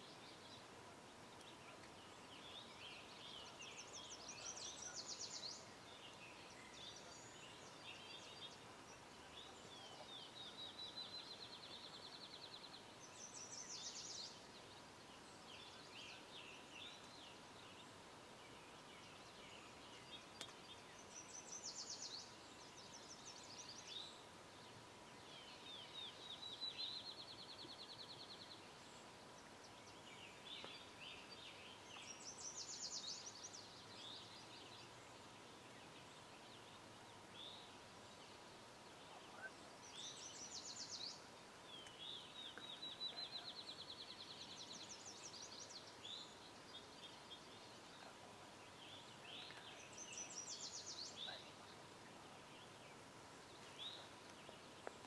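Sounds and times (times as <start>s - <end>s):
faint songbirds singing: 0.0s - 55.0s.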